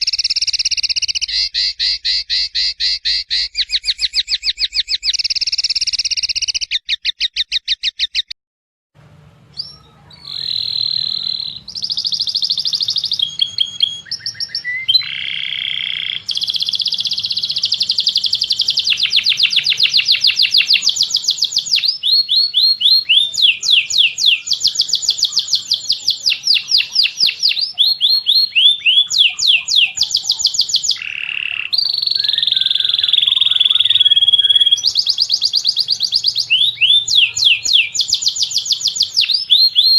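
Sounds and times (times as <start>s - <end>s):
songbird trills and chirps: 0.0s - 8.4s, 9.5s - 39.9s.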